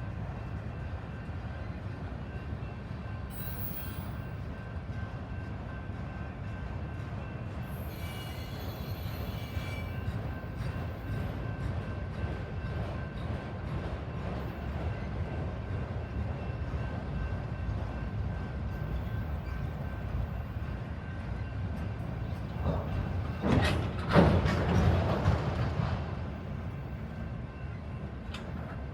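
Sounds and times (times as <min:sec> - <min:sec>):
train wheels rumbling on rail: 0:00.0 - 0:28.9.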